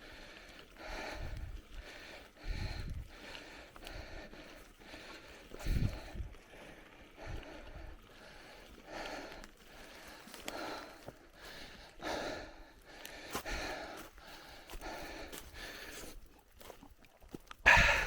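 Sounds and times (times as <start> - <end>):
heavy breathing: 0.0 - 16.2, 17.7 - 18.0.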